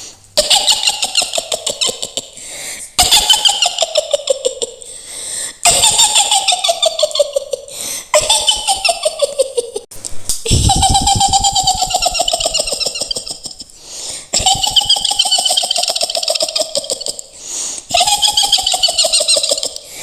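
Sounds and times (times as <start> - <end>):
woman cackling laugh: 0.4 - 2.4, 3.0 - 4.9, 5.6 - 9.9, 10.5 - 20.0.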